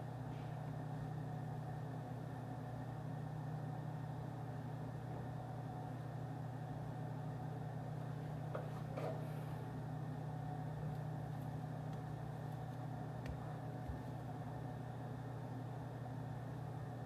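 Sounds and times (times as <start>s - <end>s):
ventilation hum: 0.0s - 17.0s.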